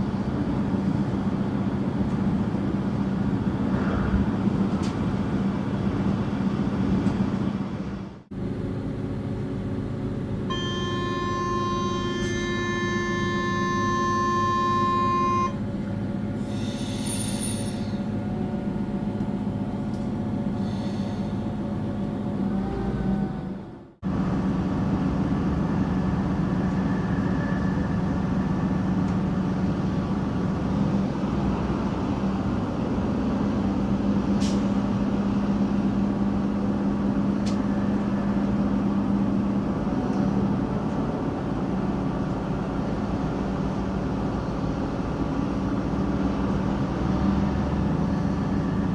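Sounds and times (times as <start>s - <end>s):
train rumbling: 0.0s - 48.9s.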